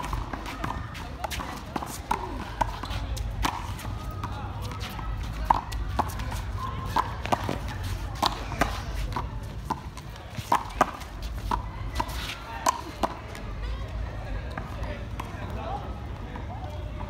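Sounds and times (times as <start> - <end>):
players' footsteps: 0.0 - 17.0.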